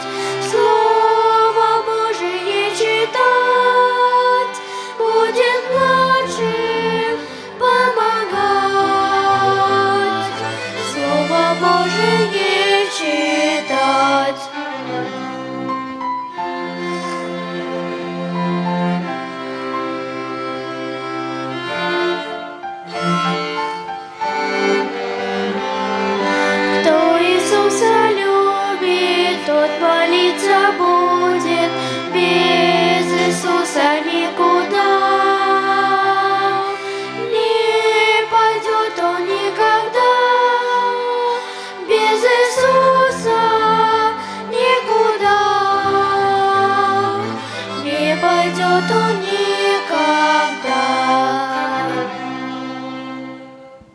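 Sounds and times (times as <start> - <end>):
violin ensemble playing hymn: 0.0 - 53.9.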